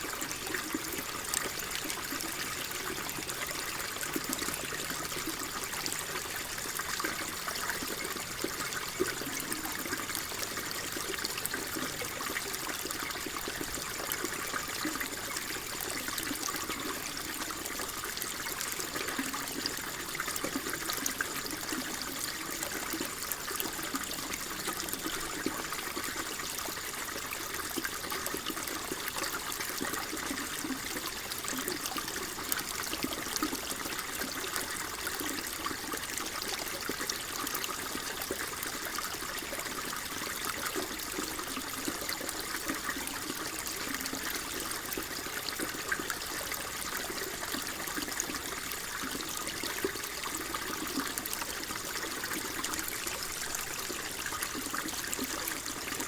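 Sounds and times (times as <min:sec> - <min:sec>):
stream trickling and gurgling: 0:00.0 - 0:56.0.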